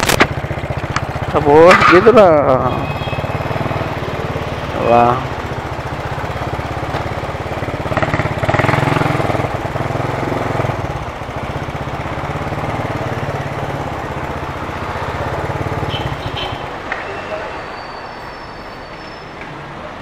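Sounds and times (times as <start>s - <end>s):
motorcycle engine puttering: 0.0s - 17.0s.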